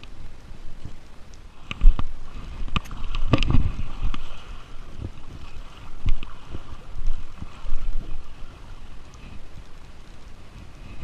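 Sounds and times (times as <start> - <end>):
running river water: 0.0 - 11.0
wind buffeting microphone: 0.0 - 11.0.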